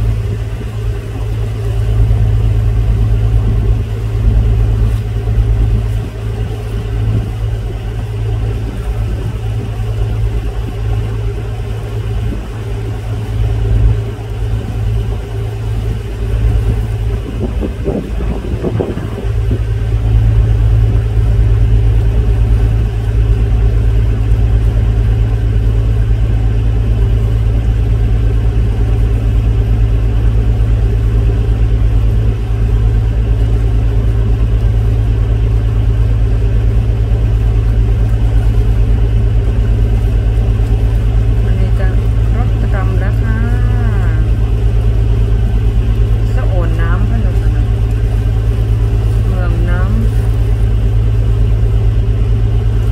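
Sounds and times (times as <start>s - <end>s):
boat engine droning: 0.0s - 52.9s.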